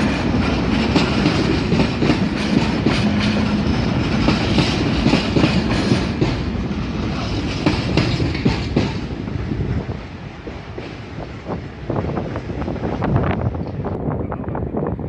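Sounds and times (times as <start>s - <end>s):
train wheels clacking: 0.0s - 13.9s
train rumble: 0.0s - 15.0s.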